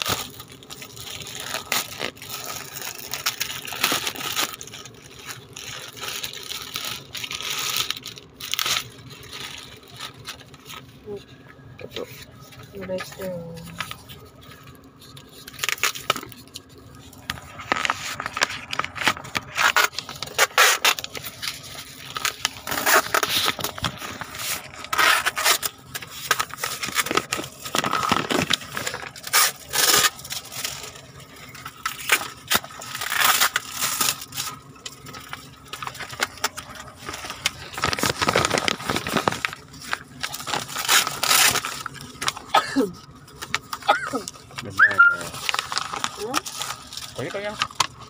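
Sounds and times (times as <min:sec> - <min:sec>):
plastic packaging tearing and crumpling: 0:00.0 - 0:48.0.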